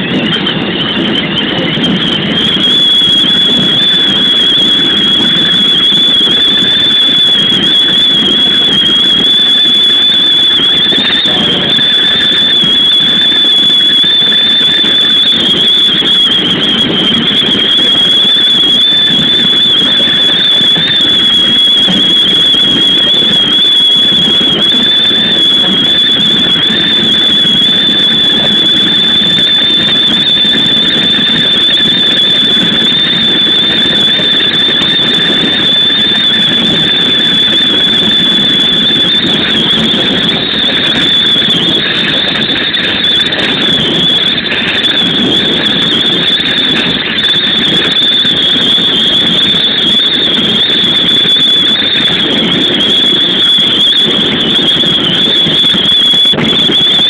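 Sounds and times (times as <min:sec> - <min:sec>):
high whistle: 0:00.0 - 0:57.0
train wind noise: 0:00.0 - 0:57.0.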